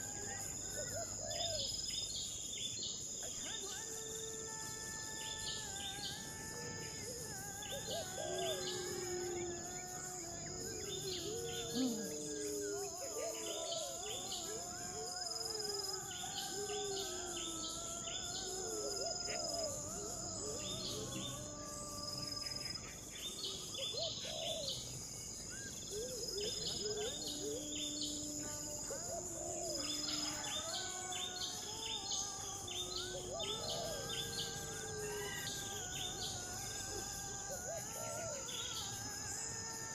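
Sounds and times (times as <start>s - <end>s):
insect drone: 0.0s - 39.9s
wavering gliding calls: 3.2s - 22.6s, 25.9s - 39.9s.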